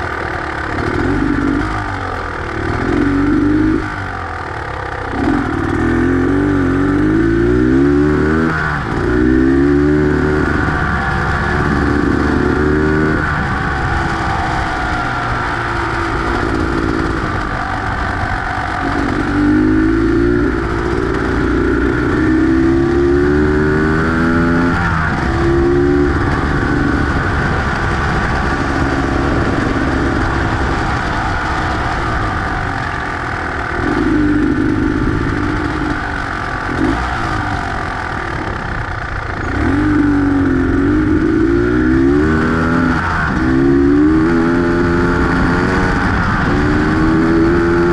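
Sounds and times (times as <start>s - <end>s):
motorcycle engine accelerating: 0.0s - 47.9s
steady low rumble: 0.0s - 47.9s.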